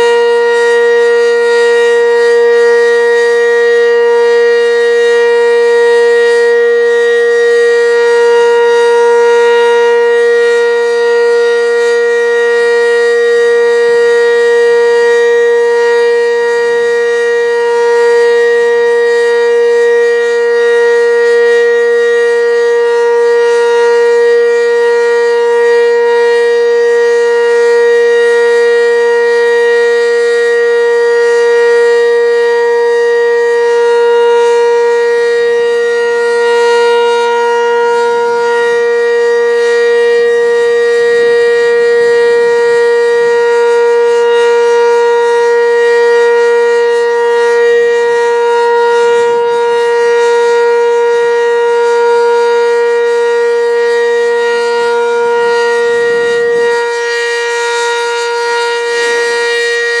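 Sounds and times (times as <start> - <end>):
steady warning siren: 0.0 - 60.0.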